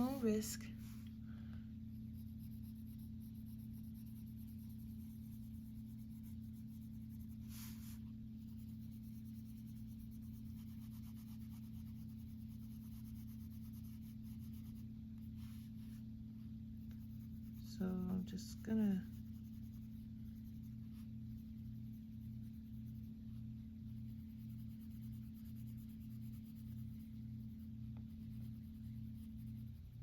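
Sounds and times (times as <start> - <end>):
pencil scratching on paper: 0.0 - 0.5, 2.0 - 16.0, 16.8 - 30.0
steady low hum: 0.0 - 30.0.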